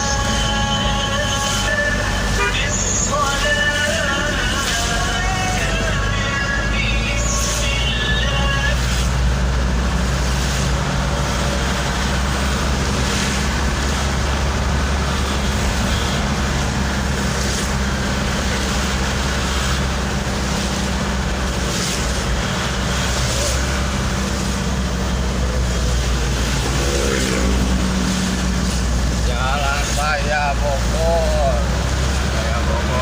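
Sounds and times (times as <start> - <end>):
low engine hum: 0.0 - 33.0
passing traffic: 0.0 - 33.0.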